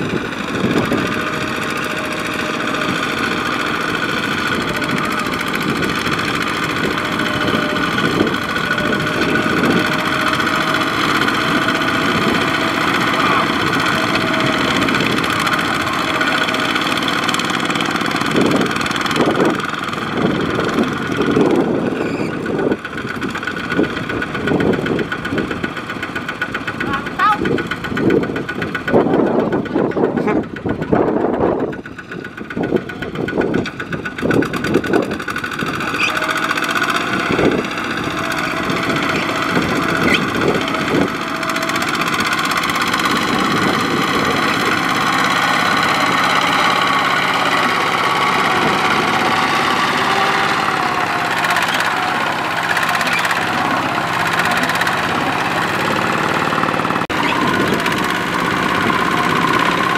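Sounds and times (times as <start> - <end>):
diesel tractor engine working hard: 0.0 - 59.9.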